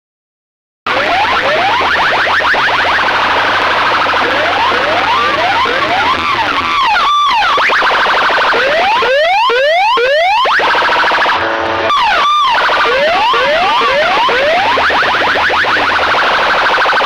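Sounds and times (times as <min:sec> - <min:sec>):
electronic siren sweeps and warbles: 0:00.9 - 0:17.0.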